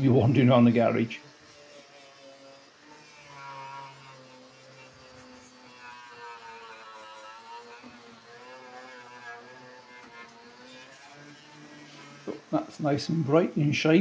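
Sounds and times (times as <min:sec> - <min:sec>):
angle grinder on metal: 0:00.0 - 0:14.0.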